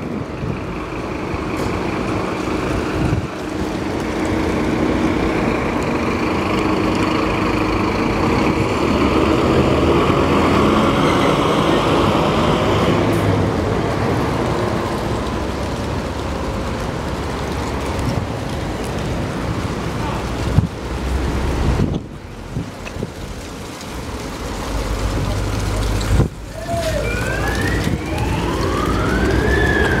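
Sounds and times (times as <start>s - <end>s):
fire engine running: 0.0s - 30.0s.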